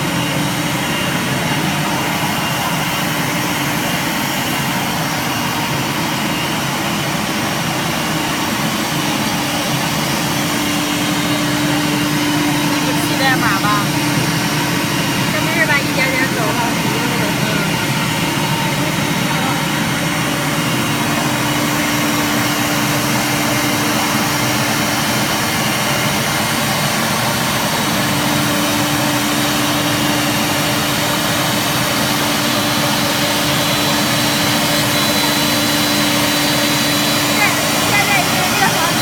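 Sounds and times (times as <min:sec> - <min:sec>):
wood router whirring: 0:00.0 - 0:39.0.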